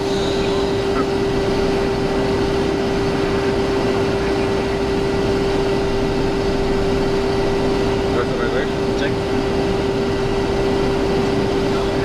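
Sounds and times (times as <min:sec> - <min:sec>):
constant hum tone: 0:00.0 - 0:12.0
jet engine and airflow rush: 0:00.0 - 0:12.0.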